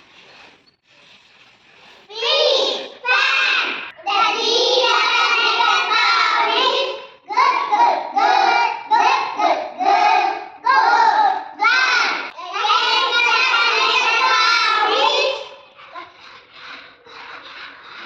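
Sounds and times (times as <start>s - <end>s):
children chanting: 2.1s - 18.0s.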